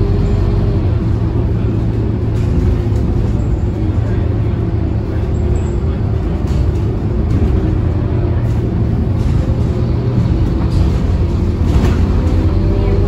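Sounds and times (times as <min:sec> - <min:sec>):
bus diesel engine droning: 0:00.0 - 0:13.0
road noise: 0:00.0 - 0:13.0.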